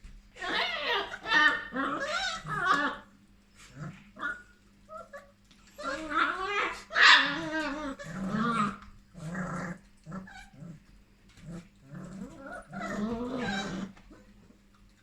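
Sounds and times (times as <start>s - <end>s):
puppy growling: 0.4s - 14.7s.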